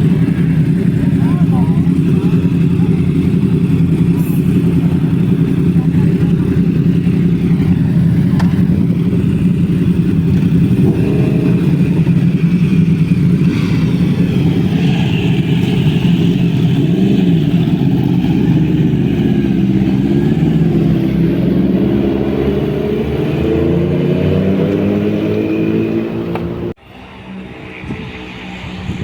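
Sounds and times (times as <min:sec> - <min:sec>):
vehicle engine running: 0:00.0 - 0:26.8.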